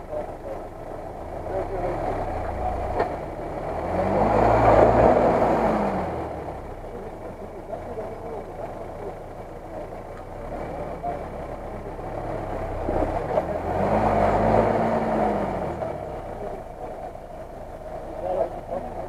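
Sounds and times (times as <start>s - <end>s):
car engine revving: 0.0s - 19.0s
wheels churning mud: 0.0s - 19.0s.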